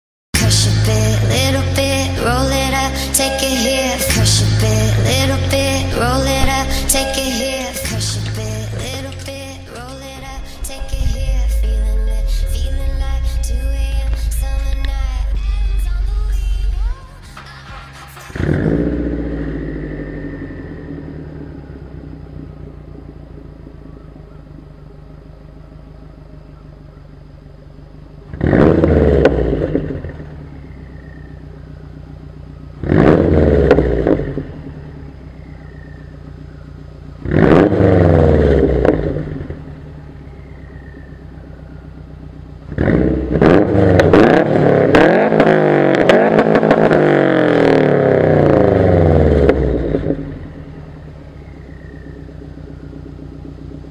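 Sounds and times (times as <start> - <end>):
car engine idling and revving: 0.3 - 53.9.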